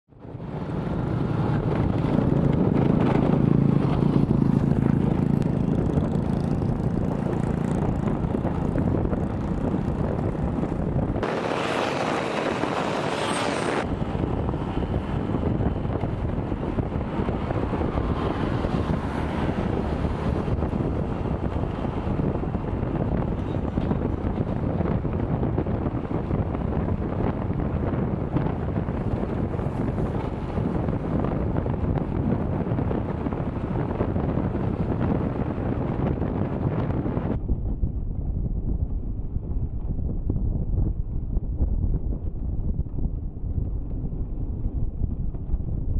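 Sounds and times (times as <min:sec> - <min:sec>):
vehicle engine hum: 0:00.1 - 0:45.9
wind rushing over microphone: 0:00.1 - 0:45.9.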